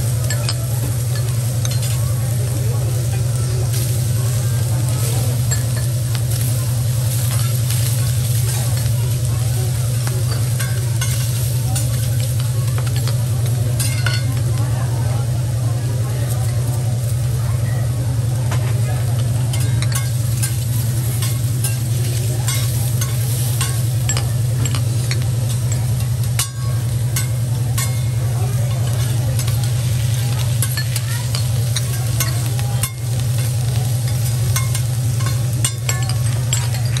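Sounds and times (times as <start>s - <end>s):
metal spatula scraping hotplate: 0.0s - 14.5s, 18.6s - 37.0s
food sizzling on a griddle: 0.0s - 37.0s
steady low hum: 0.0s - 37.0s.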